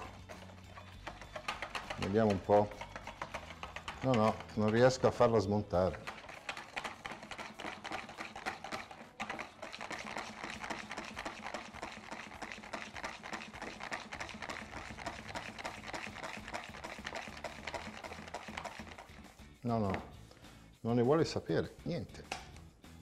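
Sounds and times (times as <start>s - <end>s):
wire whisk beating in bowl: 0.0s - 19.3s.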